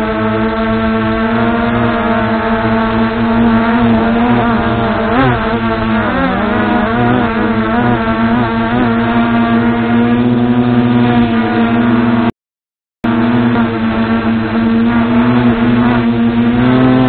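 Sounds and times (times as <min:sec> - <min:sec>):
quadcopter propellers whining: 0:00.0 - 0:12.3, 0:13.0 - 0:17.0.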